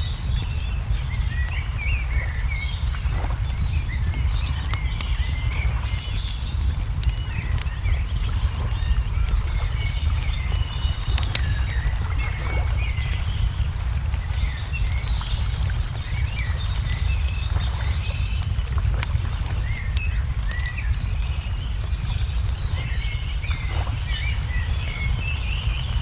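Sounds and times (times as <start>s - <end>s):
small birds chirping: 0.0s - 26.0s
steady low rumble: 0.0s - 26.0s
wood fire crackling and popping: 0.0s - 26.0s.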